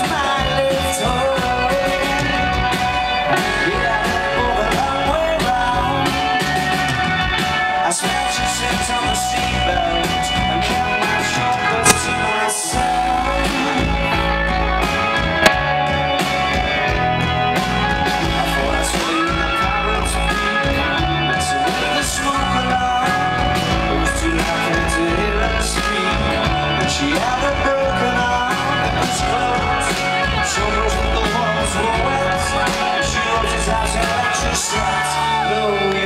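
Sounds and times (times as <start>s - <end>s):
rock band playing live: 0.0s - 36.0s.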